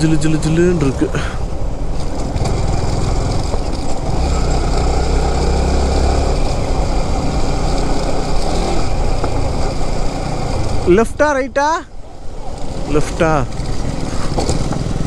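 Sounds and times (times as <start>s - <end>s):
motorcycle engine drone: 0.0s - 15.0s.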